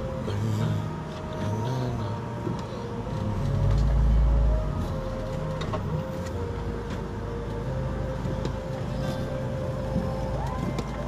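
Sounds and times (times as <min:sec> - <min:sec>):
car engine and road noise: 0:00.0 - 0:11.0
heavy low rumble: 0:00.0 - 0:11.0
quiet music inside car: 0:00.0 - 0:11.0.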